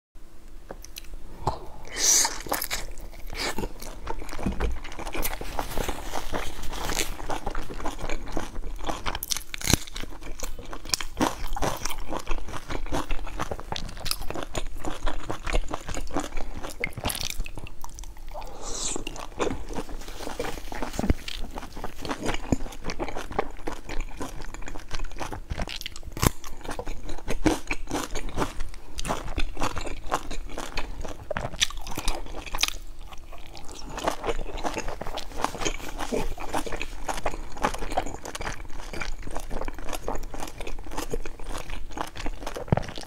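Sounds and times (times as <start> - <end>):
person crunching and chewing dumplings: 0.7 - 43.0.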